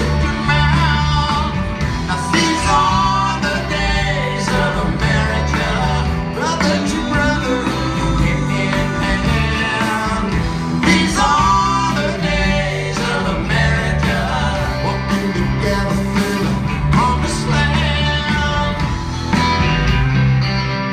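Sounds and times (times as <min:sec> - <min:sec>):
lead vocal singing: 0:00.0 - 0:19.4
live country-rock band: 0:00.0 - 0:20.9.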